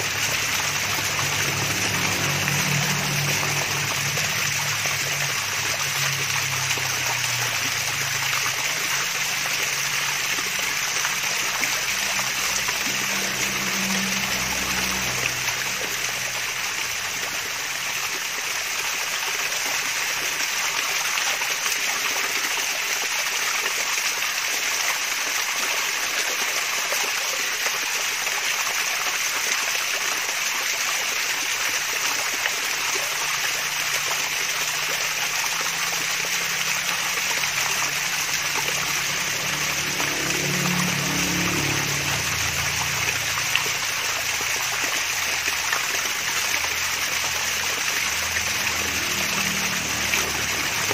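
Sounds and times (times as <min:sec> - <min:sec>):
small waterfall splashing: 0:00.0 - 0:50.9.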